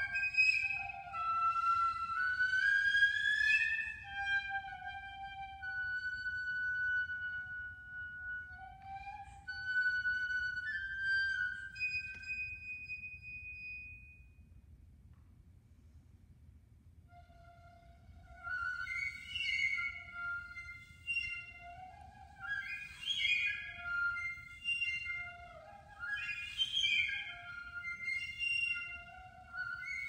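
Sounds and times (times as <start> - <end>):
solo piccolo playing: 0.0 - 14.1, 17.1 - 30.0.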